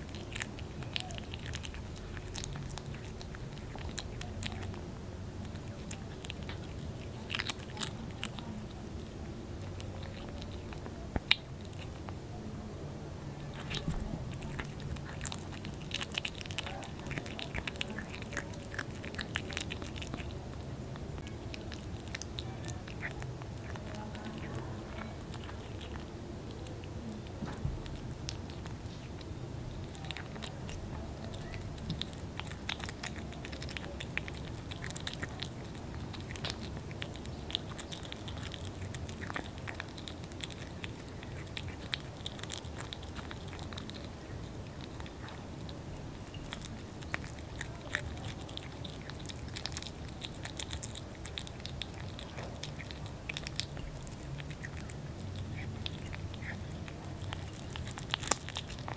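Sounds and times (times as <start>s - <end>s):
kitten chewing fish: 0.0s - 58.9s.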